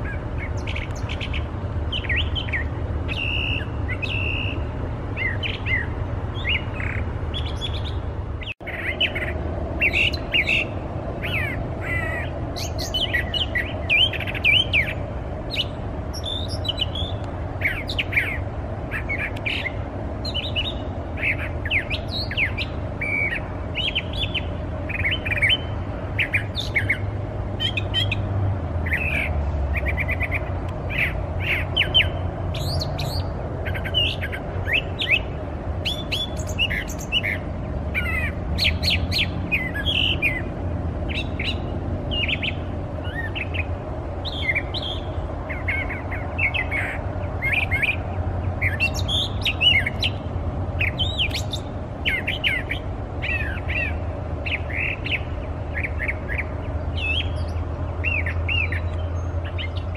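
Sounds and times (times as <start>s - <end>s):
bird singing varied phrases: 0.0s - 59.9s
rapid repeated bird notes: 0.0s - 59.9s.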